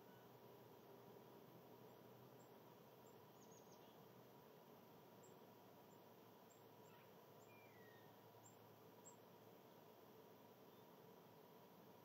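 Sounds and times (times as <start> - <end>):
faint steady hiss and hum: 0.0 - 12.0.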